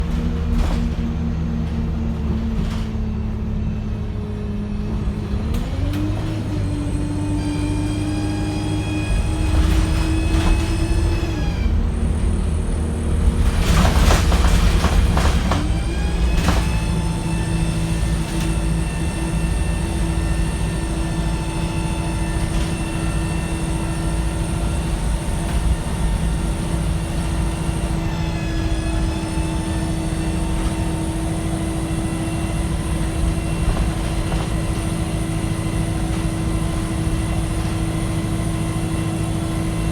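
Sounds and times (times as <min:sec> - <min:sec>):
bus engine pulling away: 0:00.0 - 0:39.9.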